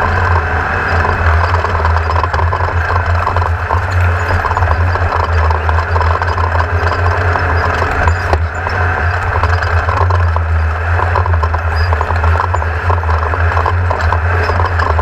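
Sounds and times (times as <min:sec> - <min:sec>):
rattling clicking noise: 0:00.0 - 0:15.0
vehicle engine running steadily: 0:00.0 - 0:15.0.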